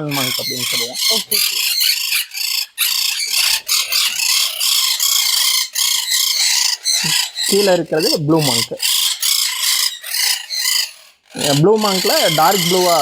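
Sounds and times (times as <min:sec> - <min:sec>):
parrots chattering and screeching: 0:00.0 - 0:13.0.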